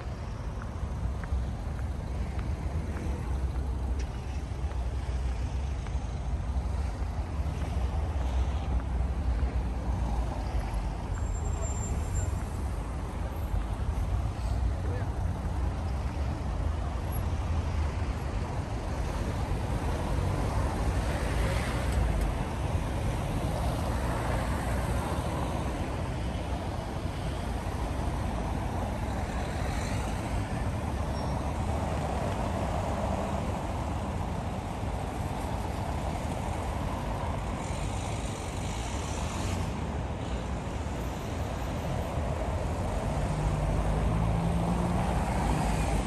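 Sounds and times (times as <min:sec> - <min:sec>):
cars driving over cobblestones: 0:00.0 - 0:46.0.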